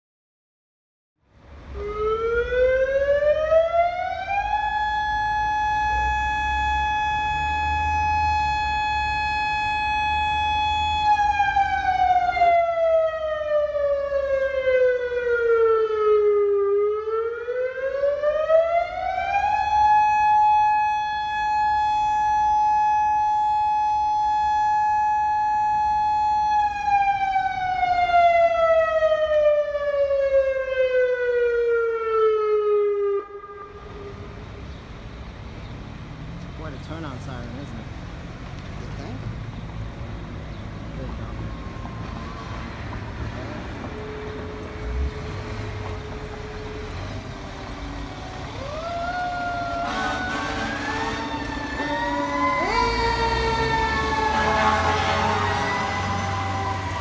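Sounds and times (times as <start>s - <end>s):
mechanical fire siren wailing: 1.7s - 34.4s, 41.2s - 57.0s.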